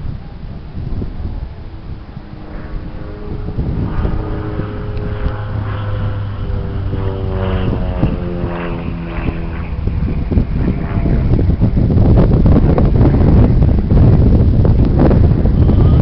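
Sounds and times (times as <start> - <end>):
plane engine droning overhead: 0.0 - 16.0
wind buffeting microphone: 0.0 - 16.0.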